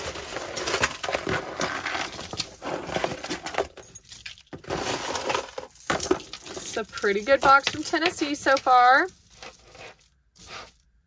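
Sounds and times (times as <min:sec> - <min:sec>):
jewelry clinking and rattling: 0:00.0 - 0:11.0.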